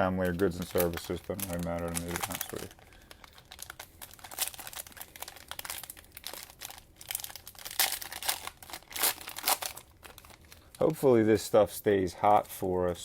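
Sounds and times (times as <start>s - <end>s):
cellophane wrappers crinkling: 0.0s - 11.1s.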